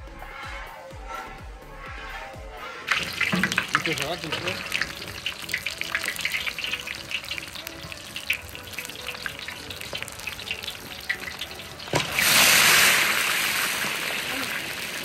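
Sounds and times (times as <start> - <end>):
water splashing and trickling: 2.9 - 15.0.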